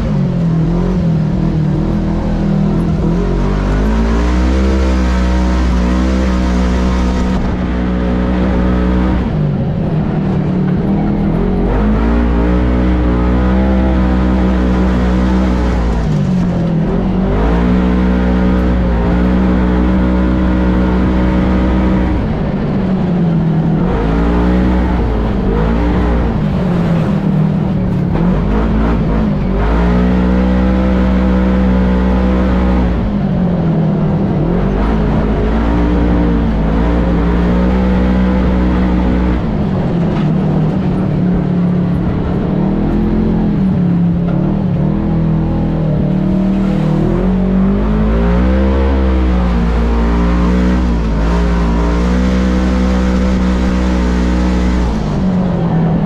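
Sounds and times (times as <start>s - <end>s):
engine revving under load: 0.0s - 56.0s.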